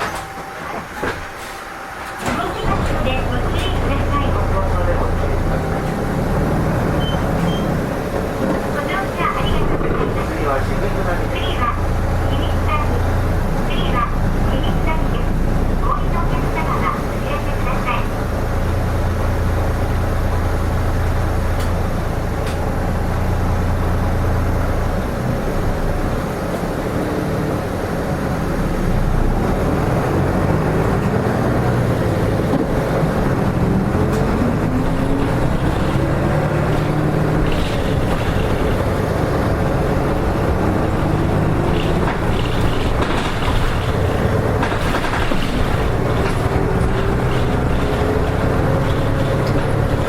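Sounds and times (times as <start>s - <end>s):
bus diesel engine: 0.0s - 50.0s.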